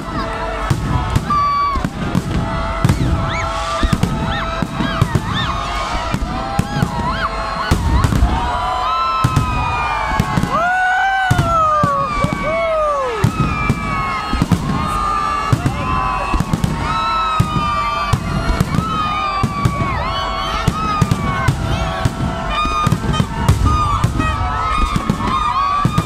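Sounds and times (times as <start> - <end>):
crowd din: 0.0 - 26.0
fireworks and firecrackers banging: 0.0 - 26.0
whistling fireworks: 0.0 - 26.0.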